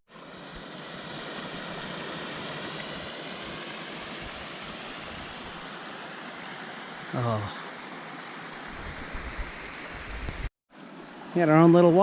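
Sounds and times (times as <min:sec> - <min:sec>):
stream rushing over rock: 0:00.1 - 0:10.5.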